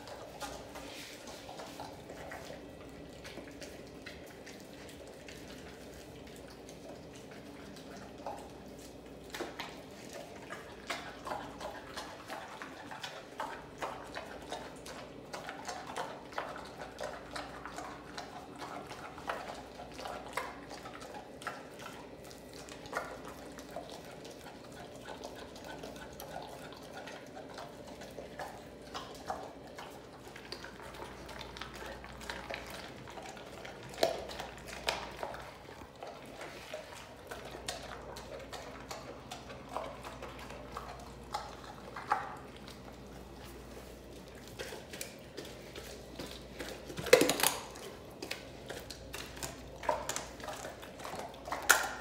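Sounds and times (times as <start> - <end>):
dog chewing and tearing meat: 0.0 - 52.0.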